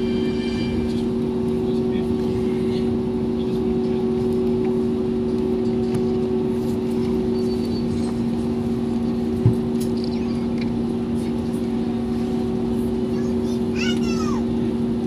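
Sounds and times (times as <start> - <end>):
airliner cabin drone: 0.0 - 15.0
steady hum tones: 0.0 - 15.0.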